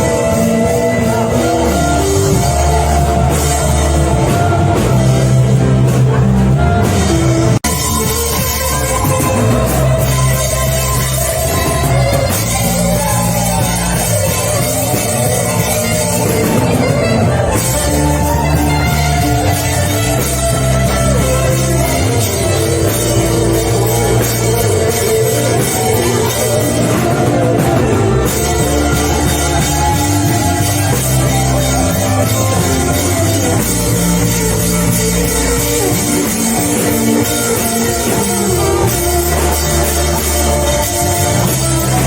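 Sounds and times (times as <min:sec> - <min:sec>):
drum kit: 0:00.0 - 0:42.0
live band music: 0:00.0 - 0:42.0
sustained bass notes: 0:00.0 - 0:42.0.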